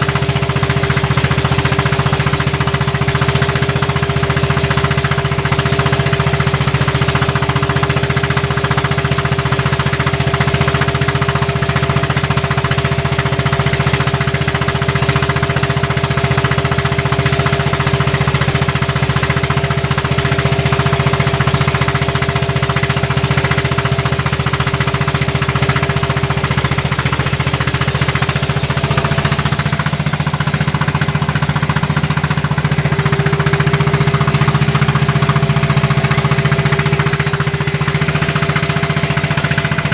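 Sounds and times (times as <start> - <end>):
boat diesel engine pounding: 0.0 - 39.9.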